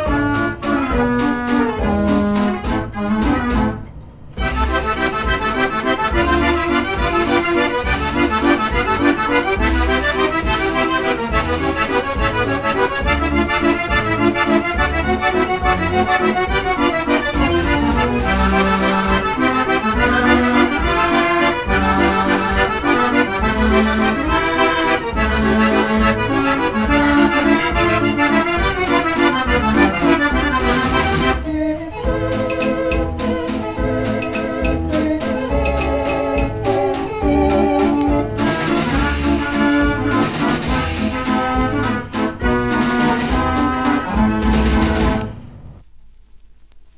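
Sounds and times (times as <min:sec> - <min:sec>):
dance organ playing a waltz: 0:00.0 - 0:45.4.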